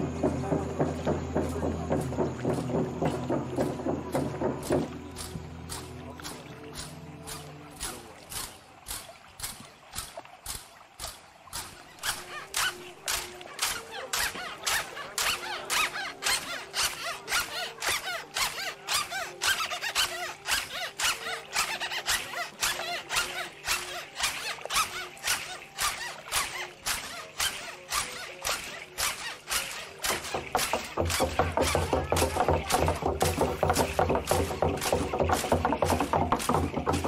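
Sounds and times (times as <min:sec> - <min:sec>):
percussion beating steady rhythm: 0:00.0 - 0:37.0.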